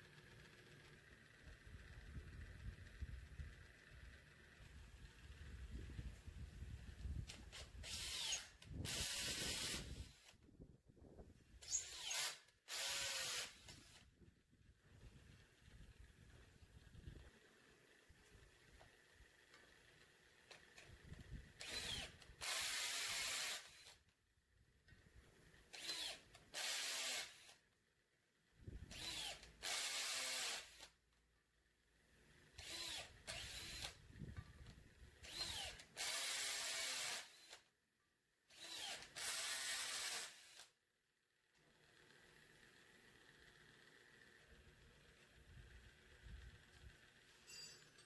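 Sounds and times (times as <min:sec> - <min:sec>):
cordless drill spinning: 0:00.0 - 0:10.6, 0:11.4 - 0:14.2, 0:15.0 - 0:24.1, 0:25.0 - 0:27.7, 0:28.6 - 0:31.1, 0:32.3 - 0:37.7, 0:38.5 - 0:40.8, 0:41.5 - 0:47.9.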